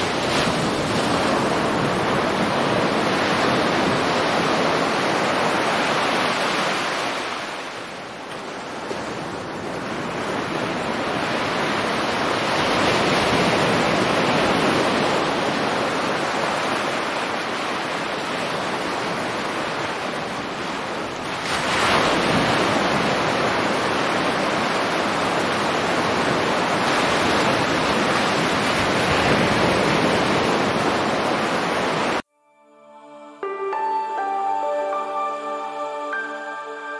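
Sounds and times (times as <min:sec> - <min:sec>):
sea waves washing: 0:00.0 - 0:32.2.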